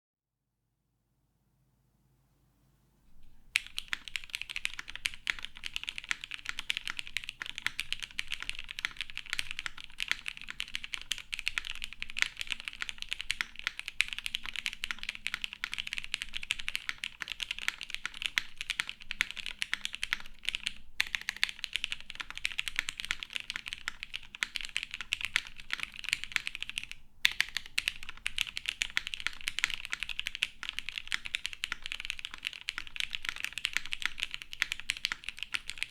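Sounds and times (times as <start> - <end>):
mechanical keyboard typing: 3.6 - 35.9.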